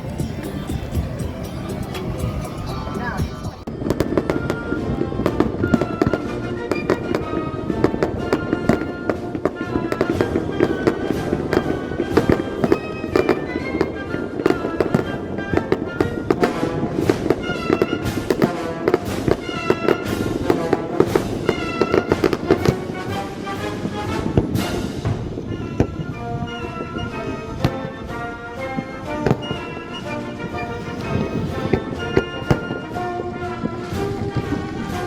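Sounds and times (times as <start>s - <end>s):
background music: 0.0s - 35.0s
fireworks bursting and crackling: 2.0s - 35.0s.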